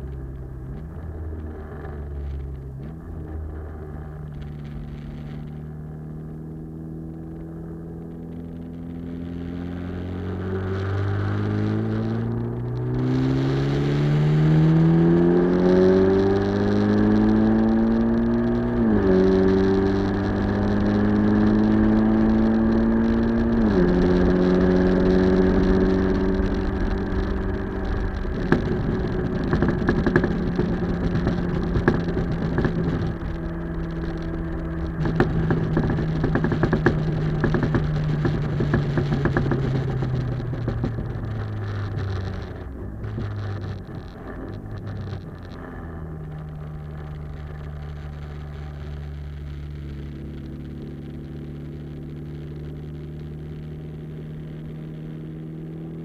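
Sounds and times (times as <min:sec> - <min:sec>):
car engine revving through exhaust: 0:00.0 - 0:56.0
gear changes: 0:00.0 - 0:56.0
road and wind noise: 0:00.0 - 0:56.0.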